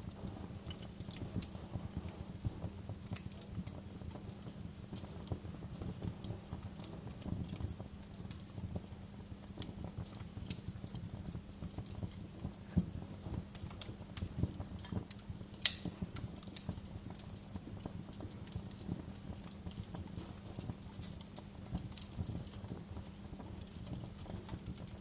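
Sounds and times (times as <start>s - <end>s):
low steady rumble: 0.0s - 25.0s
wood fire crackling and popping: 0.0s - 25.0s.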